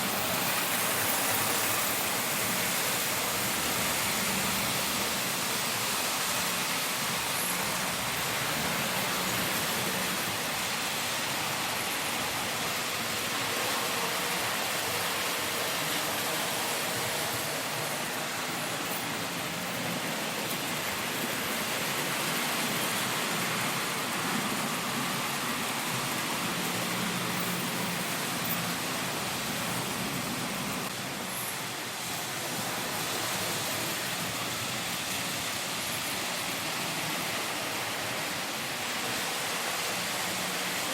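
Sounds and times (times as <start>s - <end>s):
model trains running: 0.0s - 40.9s.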